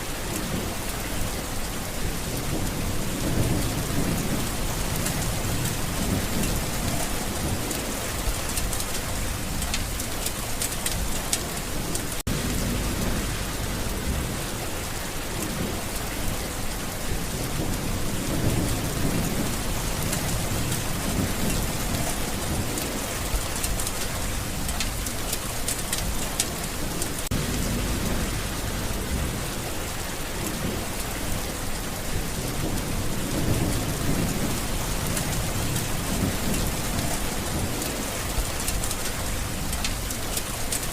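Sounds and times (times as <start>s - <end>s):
heavy rain: 0.0s - 40.9s
thunder rumbling: 0.0s - 40.9s.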